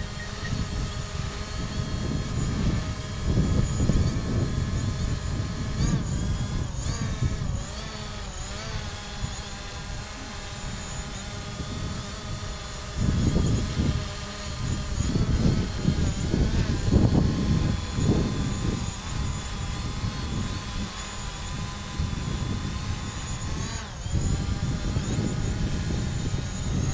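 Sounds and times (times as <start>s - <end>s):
drone propellers whining: 0.0s - 26.9s.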